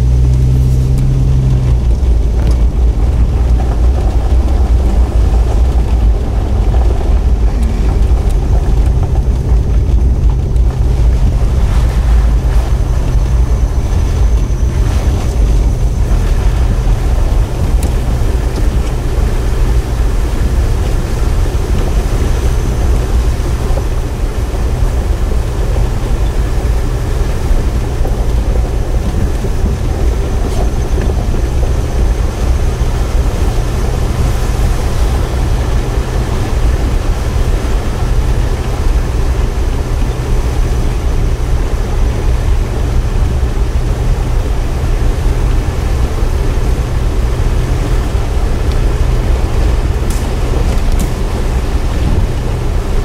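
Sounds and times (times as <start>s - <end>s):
engine rumbling: 0.0s - 53.0s.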